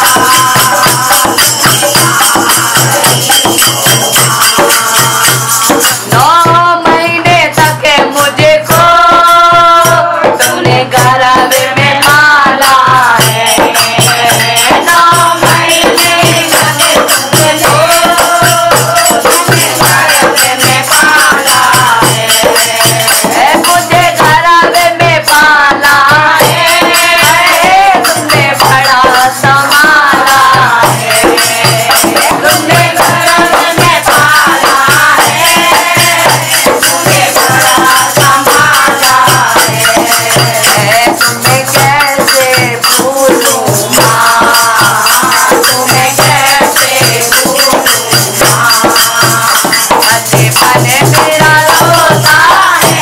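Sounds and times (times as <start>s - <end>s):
hand drum steady beat: 0.0s - 53.0s
jingling shaker rhythm: 0.0s - 53.0s.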